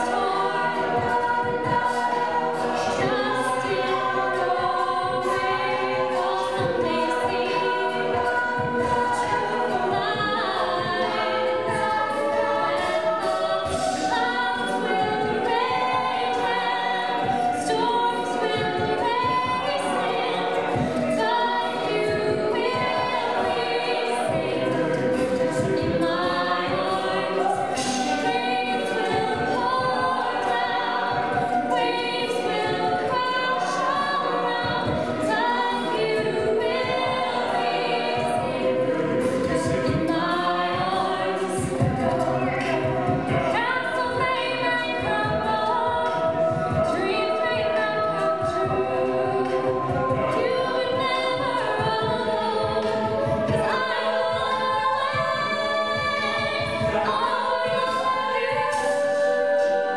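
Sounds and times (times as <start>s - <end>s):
backing vocal harmonies: 0.0s - 59.9s
female soloist singing: 0.0s - 59.9s
vocal percussion beat: 0.0s - 59.9s.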